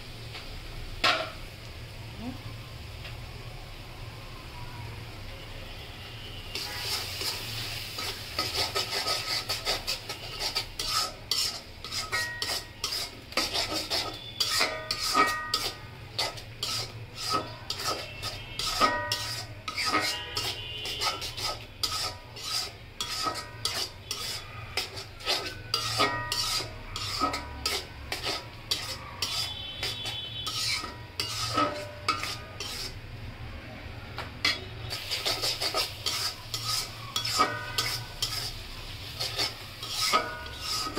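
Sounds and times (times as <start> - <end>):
frying paste sizzling: 0.0 - 40.9
metal spatula scraping a pan: 6.2 - 33.0, 34.4 - 40.9.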